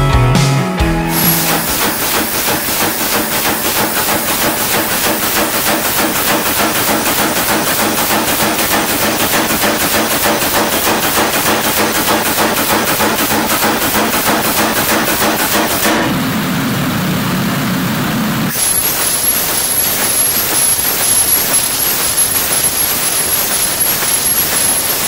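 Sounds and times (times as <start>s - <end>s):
power hammer pounding steel: 1.1s - 16.5s, 18.5s - 25.0s.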